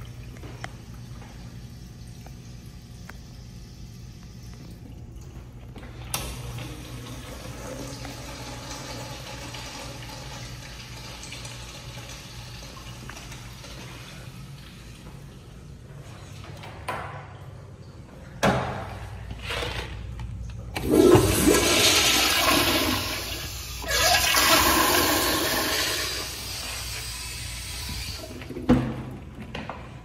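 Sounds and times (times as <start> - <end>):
toilet flushing: 0.0 - 16.8, 20.7 - 29.4.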